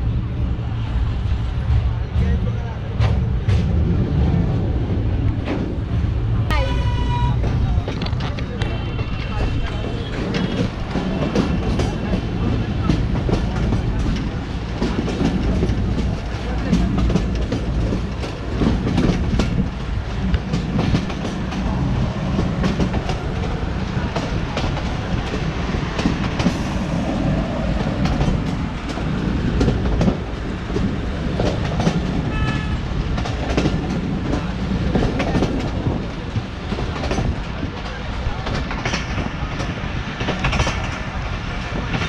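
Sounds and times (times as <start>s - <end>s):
train rumble: 0.0s - 42.0s
wheels clacking over rail joints: 7.4s - 42.0s.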